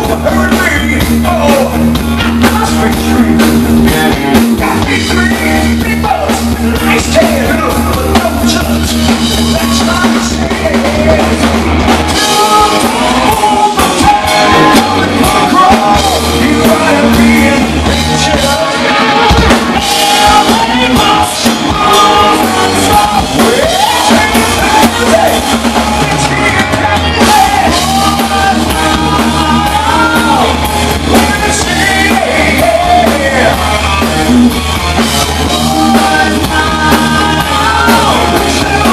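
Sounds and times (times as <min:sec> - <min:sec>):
hard rock band playing live: 0:00.0 - 0:38.9
man singing: 0:00.0 - 0:38.9.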